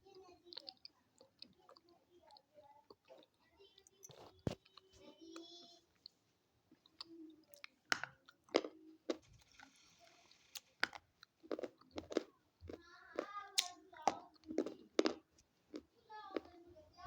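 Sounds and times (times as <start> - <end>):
crunchy sticks being chewed: 0.5 - 4.9, 5.9 - 16.6.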